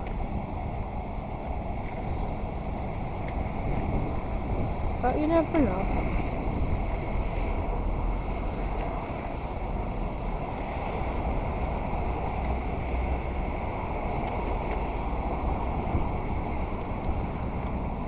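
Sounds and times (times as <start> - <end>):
city traffic rumble: 0.0 - 18.0
wind buffeting microphone: 0.0 - 18.0.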